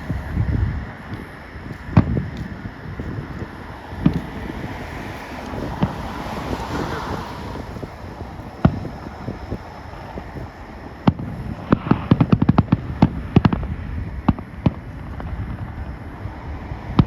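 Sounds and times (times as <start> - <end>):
fireworks bangs and pops: 0.9 - 15.8.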